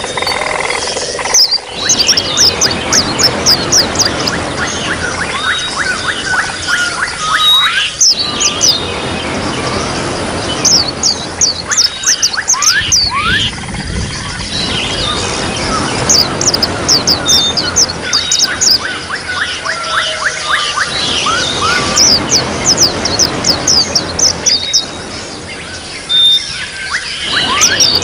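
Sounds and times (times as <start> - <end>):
bird song high chirps: 0.0 - 28.0
trickling water: 0.0 - 28.0.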